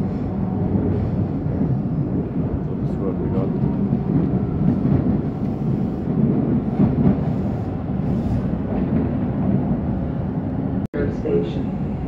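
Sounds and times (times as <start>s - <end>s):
low rumble of moving train car: 0.0s - 12.0s.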